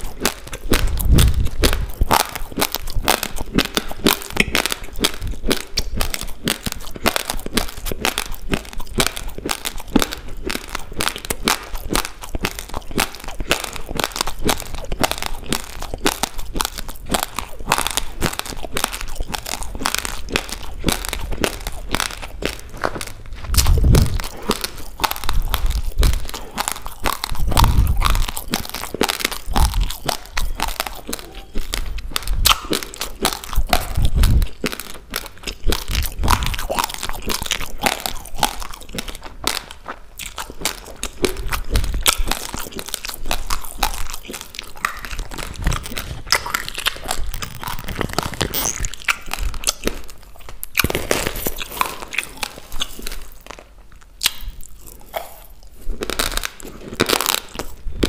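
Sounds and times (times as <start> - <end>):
chewing raw rice grains: 0.0 - 58.0.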